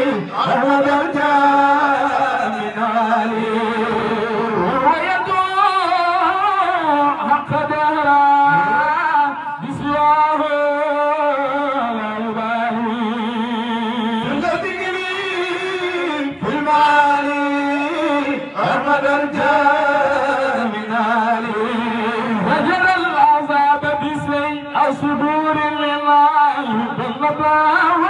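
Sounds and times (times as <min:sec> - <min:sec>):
men chanting into microphones: 0:00.0 - 0:28.0.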